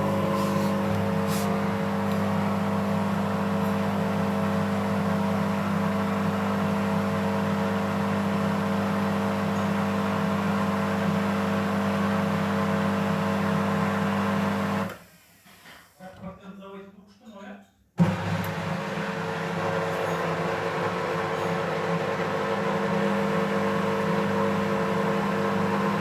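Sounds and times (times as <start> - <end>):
washing machine motor hum: 0.0 - 14.9, 18.0 - 26.0.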